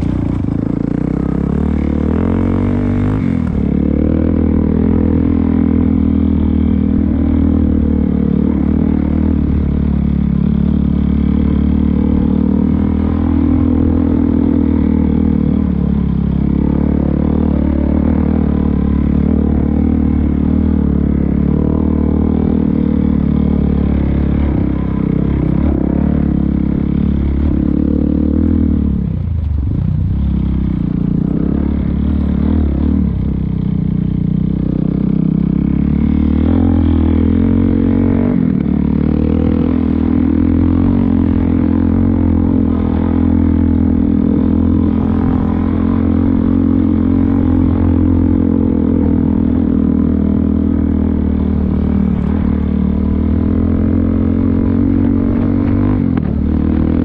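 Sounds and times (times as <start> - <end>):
dirt bike engine running hard: 0.0 - 57.0.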